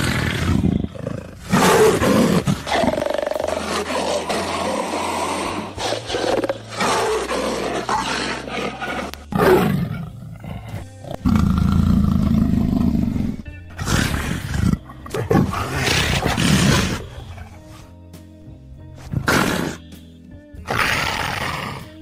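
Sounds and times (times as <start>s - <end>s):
leopard growling and roaring: 0.0s - 18.0s, 19.0s - 19.9s, 20.6s - 22.0s
music: 0.0s - 22.0s.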